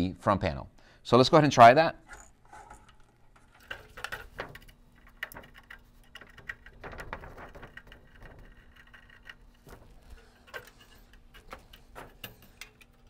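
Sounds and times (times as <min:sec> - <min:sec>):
screwdriver clicking and scraping: 0:02.1 - 0:13.0.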